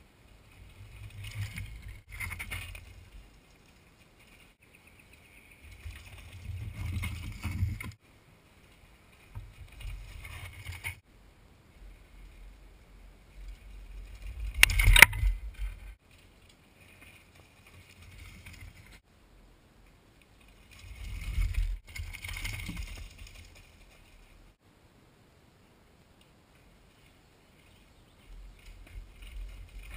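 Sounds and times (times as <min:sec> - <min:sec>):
bike tyre and frame rattle: 0:00.3 - 0:11.1, 0:13.3 - 0:19.1, 0:20.3 - 0:24.6, 0:26.6 - 0:29.9.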